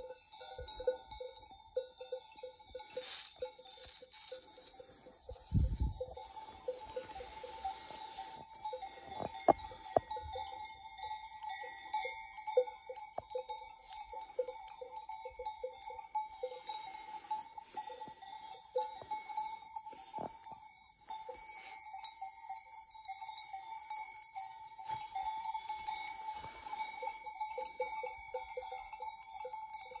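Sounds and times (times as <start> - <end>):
animal bells clinking: 0.0 - 30.0.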